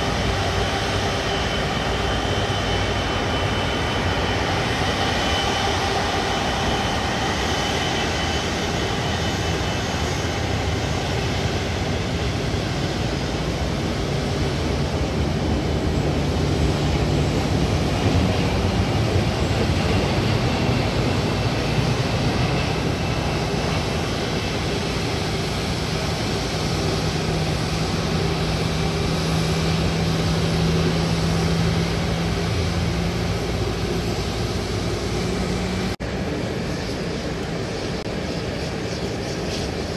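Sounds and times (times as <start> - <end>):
jet engine noise: 0.0 - 39.9.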